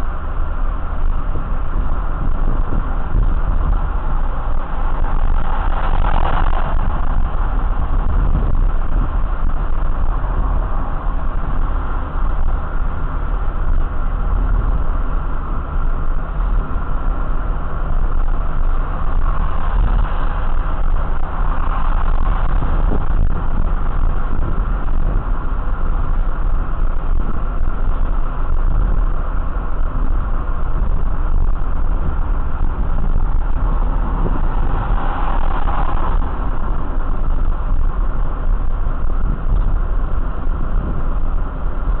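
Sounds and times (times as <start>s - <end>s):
vehicle rumbling: 0.0s - 42.0s.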